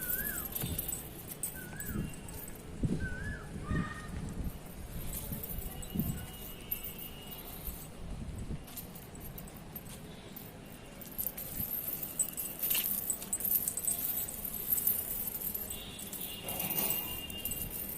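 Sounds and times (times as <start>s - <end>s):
metal jingling and clinking: 0.0s - 17.9s.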